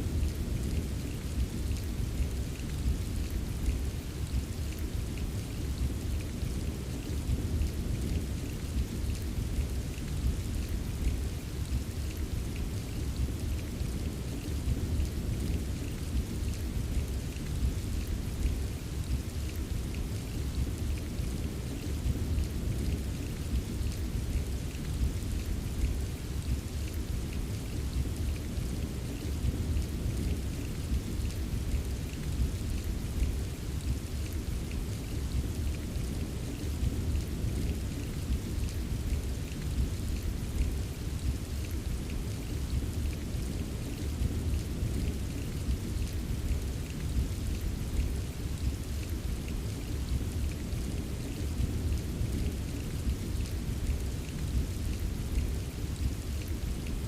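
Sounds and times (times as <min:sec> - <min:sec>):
rain drops tapping: 0:00.0 - 0:57.0.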